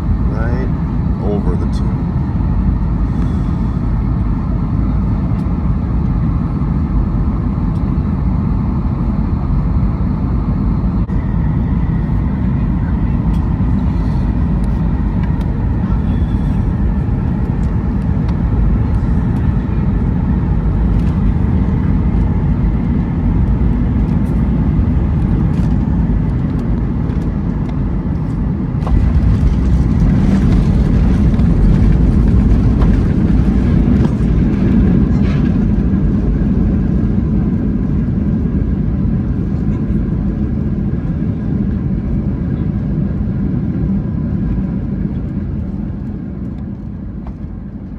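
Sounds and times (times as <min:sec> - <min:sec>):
jet engine and airflow roar: 0:00.0 - 0:47.9.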